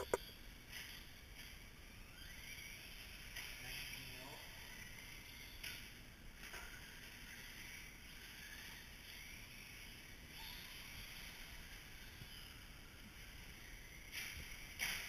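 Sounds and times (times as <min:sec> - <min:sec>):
electric rc truck whine: 0:00.0 - 0:15.0.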